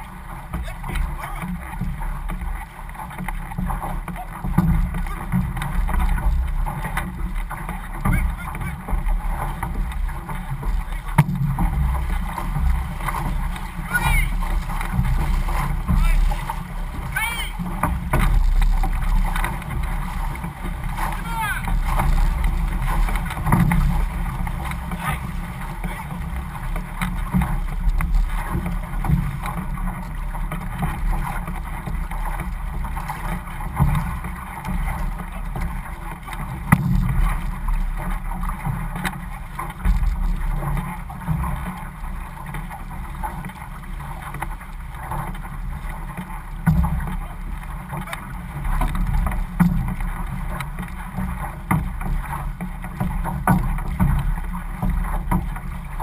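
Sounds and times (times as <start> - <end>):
paddles catching water: 0.0 - 56.0
water rushing along canoe hull: 0.0 - 56.0
wind rumble on microphone: 0.0 - 56.0.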